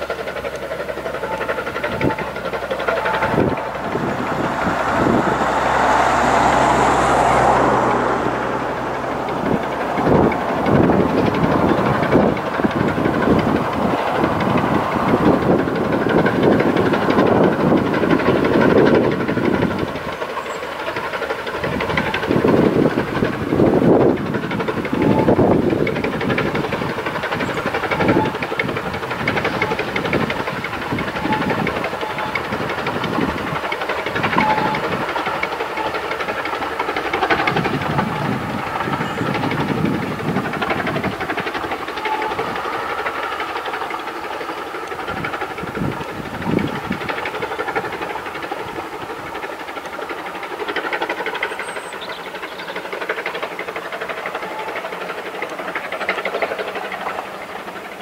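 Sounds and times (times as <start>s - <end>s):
steam locomotive chuffing: 0.0s - 58.0s
wheels rumbling on rails: 0.0s - 58.0s.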